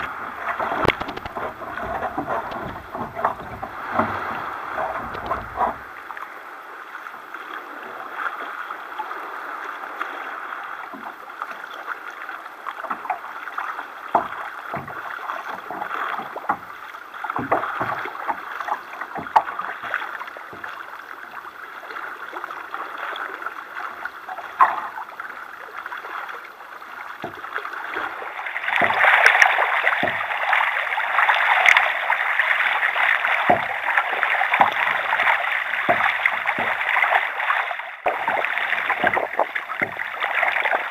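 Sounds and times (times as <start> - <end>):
paddle knocks and slaps: 0.0 - 6.3, 10.8 - 40.9
water splashing along hull: 0.0 - 40.9.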